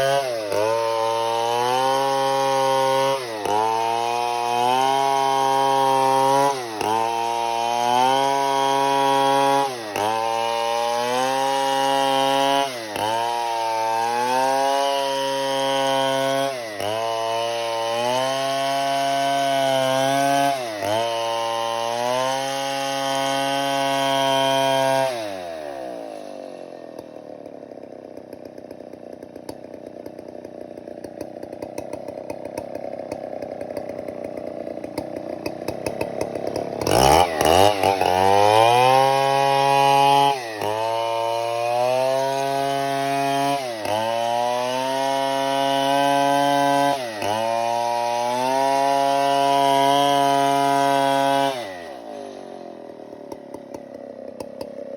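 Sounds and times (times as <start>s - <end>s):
chainsaw revving and idling: 0.0s - 54.9s.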